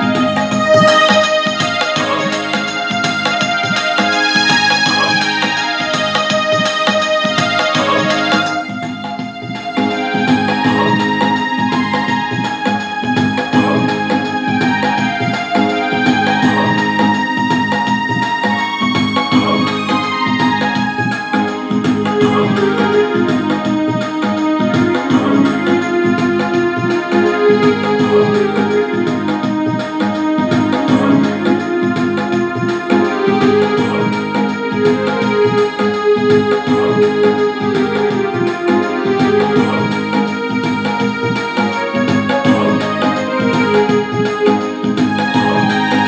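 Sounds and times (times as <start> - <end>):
electronic keyboard melody: 0.0 - 46.0.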